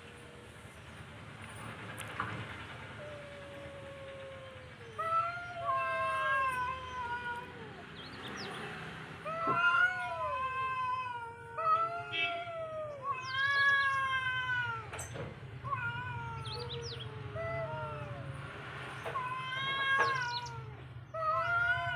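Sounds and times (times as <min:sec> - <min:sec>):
cats yowling: 0:02.8 - 0:21.9.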